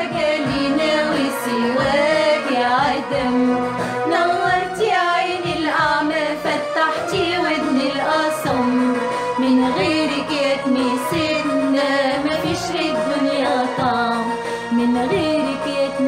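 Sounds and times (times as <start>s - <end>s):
instrumental accompaniment: 0.0s - 16.0s
women singing a hymn: 0.0s - 16.0s.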